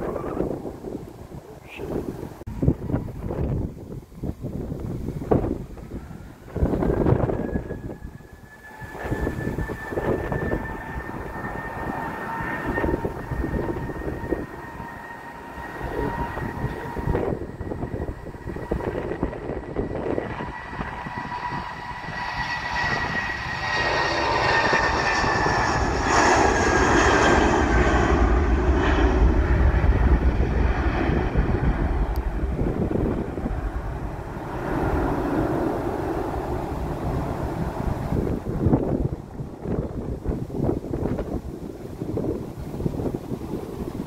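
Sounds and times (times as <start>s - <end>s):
jet engines whining: 0.0s - 44.0s
jet rumble: 0.0s - 44.0s
wind buffeting microphone: 0.0s - 44.0s.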